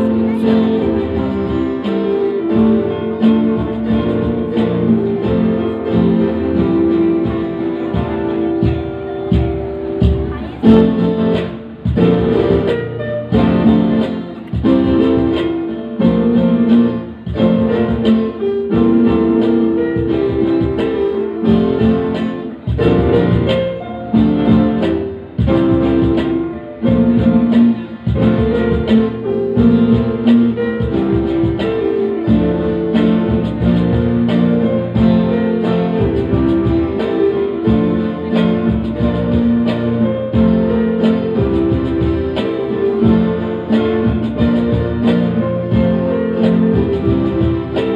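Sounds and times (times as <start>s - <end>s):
electric guitar playing: 0.0s - 47.9s
hand drum beating: 0.0s - 47.9s
keyboards: 0.0s - 47.9s.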